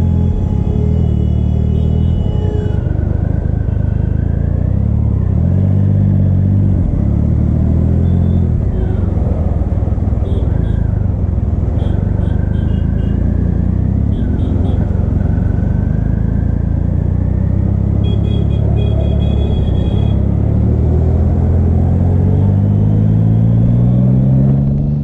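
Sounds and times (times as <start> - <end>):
motorcycle engine rumbling: 0.0 - 23.9.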